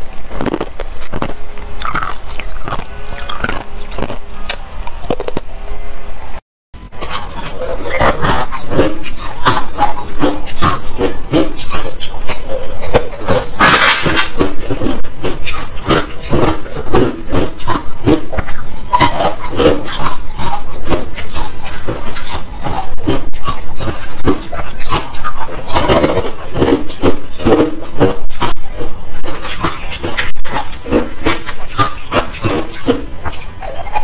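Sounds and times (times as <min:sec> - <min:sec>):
crunching and chewing ice: 0:00.0 - 0:05.5, 0:07.0 - 0:34.0.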